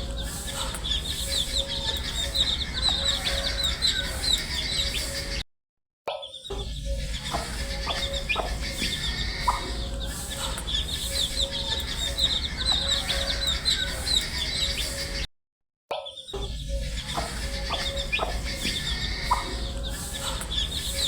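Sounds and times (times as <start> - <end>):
baby chicks peeping: 0.0 - 5.4, 6.4 - 15.2, 16.3 - 21.0.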